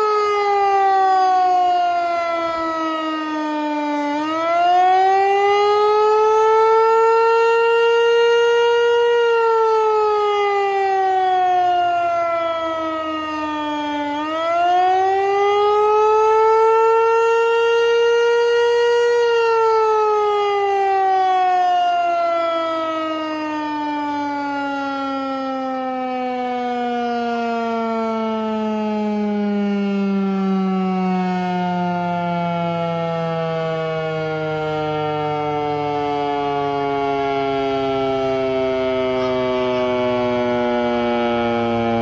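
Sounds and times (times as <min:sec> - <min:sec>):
tornado siren wailing: 0:00.0 - 0:42.0.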